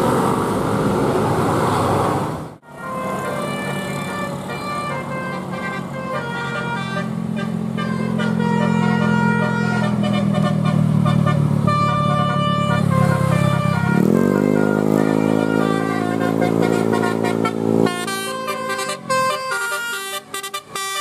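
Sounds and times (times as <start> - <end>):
engines droning: 0.0 - 21.0
multi-tone bus air horn melody: 2.6 - 21.0.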